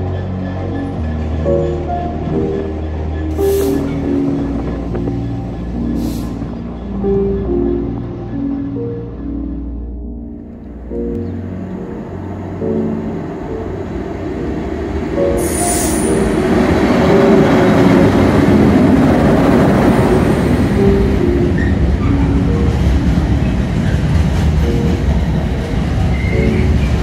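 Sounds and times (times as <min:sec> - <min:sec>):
freight train wheels on rails: 0:00.0 - 0:08.8, 0:11.3 - 0:27.0.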